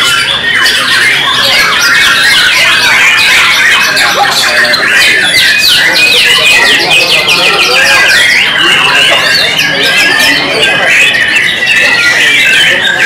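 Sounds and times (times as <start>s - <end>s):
birds singing whistles and chirps: 0.0s - 13.0s.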